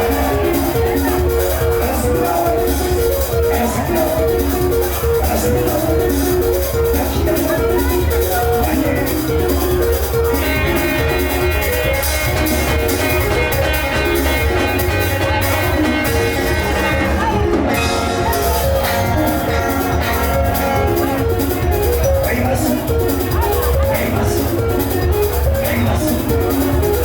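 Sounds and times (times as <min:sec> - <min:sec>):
heavy bass line: 0:00.0 - 0:27.0
live band instrumental music: 0:00.0 - 0:27.0.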